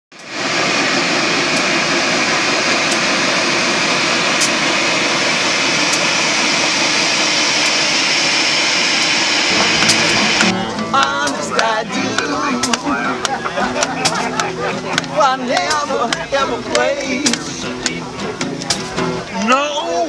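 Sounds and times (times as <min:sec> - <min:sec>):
steam locomotive hissing: 0:00.1 - 0:20.0.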